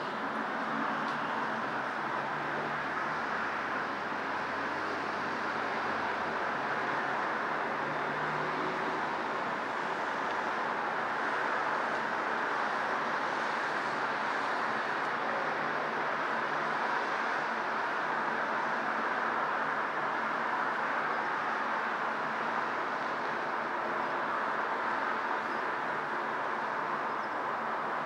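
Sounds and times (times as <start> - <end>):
distant road traffic: 0.0 - 28.0.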